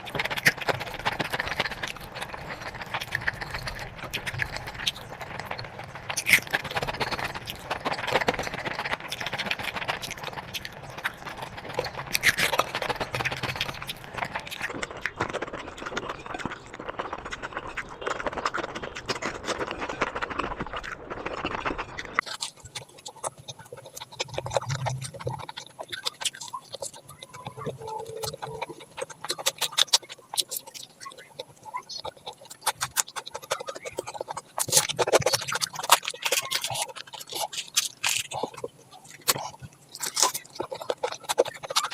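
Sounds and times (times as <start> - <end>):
chewing: 0.0 - 41.9
wet mouth clicks: 0.0 - 41.9.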